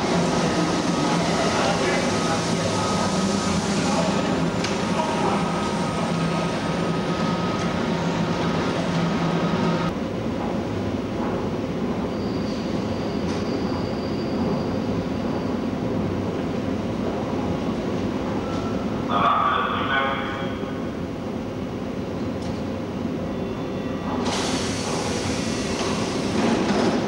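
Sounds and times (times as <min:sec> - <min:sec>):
train drive humming: 0:00.0 - 0:27.0.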